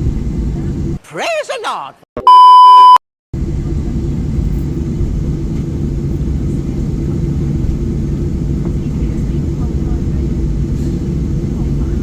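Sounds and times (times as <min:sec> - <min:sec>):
airplane cabin engine rumble: 0:00.0 - 0:01.0, 0:03.4 - 0:12.0.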